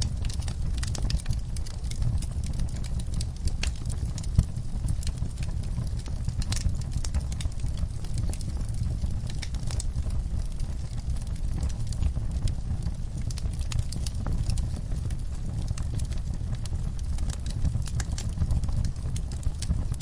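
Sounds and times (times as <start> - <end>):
fireplace crackling and popping: 0.0 - 20.0
low rumble of fire: 0.0 - 20.0.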